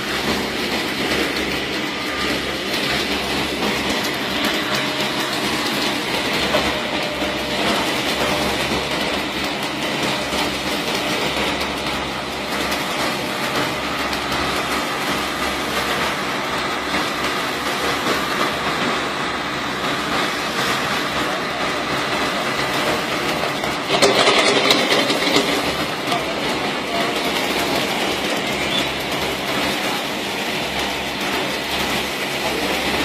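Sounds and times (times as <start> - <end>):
heavy mechanical rumble and clatter: 0.0 - 33.0.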